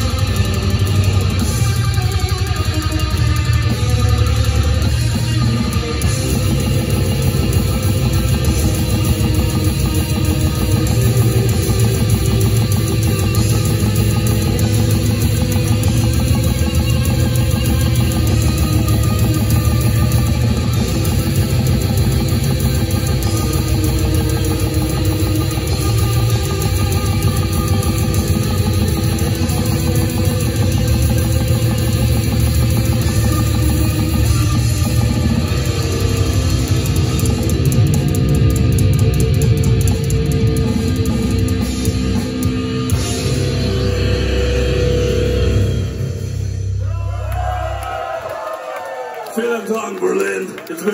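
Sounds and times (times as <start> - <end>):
live death metal band playing: 0.0 - 48.2.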